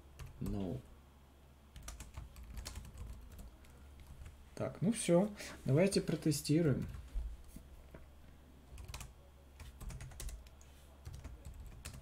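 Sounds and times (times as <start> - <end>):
faint keyboard typing: 0.0 - 0.8, 1.7 - 4.8, 6.1 - 12.0.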